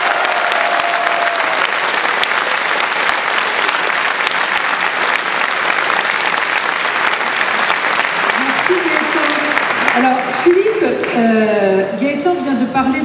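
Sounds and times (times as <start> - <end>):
audience applause: 0.0 - 11.2.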